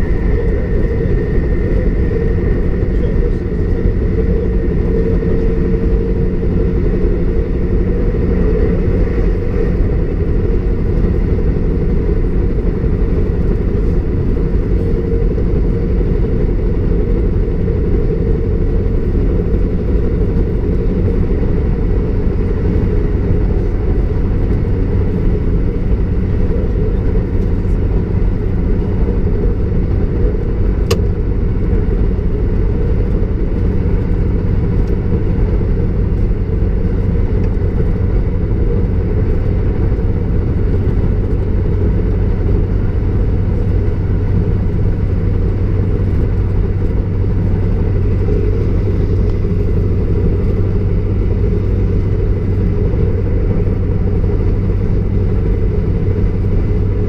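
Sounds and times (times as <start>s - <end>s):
diesel engine hum: 0.0s - 57.0s.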